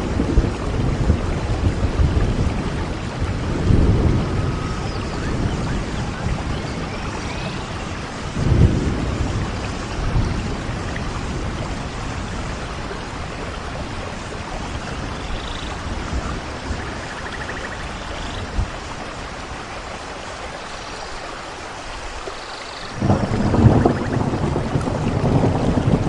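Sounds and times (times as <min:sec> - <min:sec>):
thunder rumbling: 0:00.0 - 0:19.4, 0:22.9 - 0:26.0
steady rain: 0:00.0 - 0:26.0.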